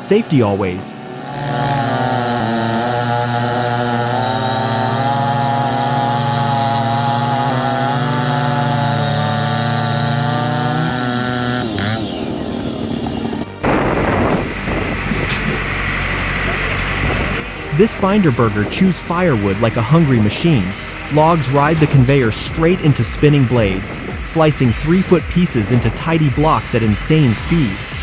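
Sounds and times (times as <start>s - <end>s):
chainsaw running: 0.0s - 28.0s.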